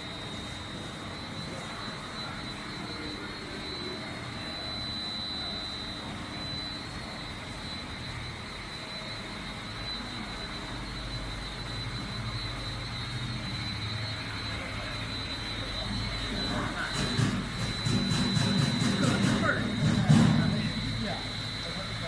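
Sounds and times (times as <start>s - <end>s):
fans and motors whirring: 0.0s - 22.0s
high-pitched whine: 0.0s - 22.0s.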